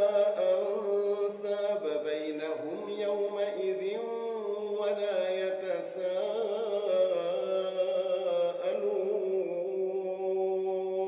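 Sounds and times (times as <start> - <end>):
person reciting melodically: 0.0 - 11.0.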